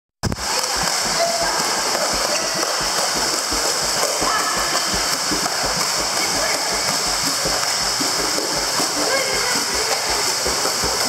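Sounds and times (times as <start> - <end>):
dog splashing in pool water: 0.4 - 11.0.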